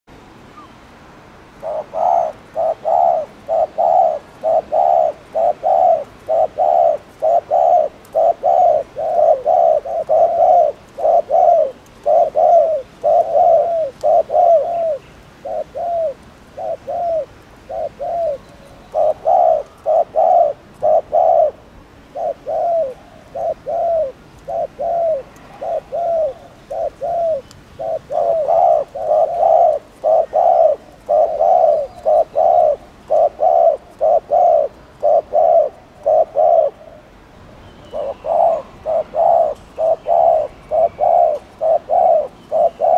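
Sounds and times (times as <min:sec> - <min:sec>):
dove cooing: 0:01.6 - 0:37.2, 0:37.8 - 0:42.9.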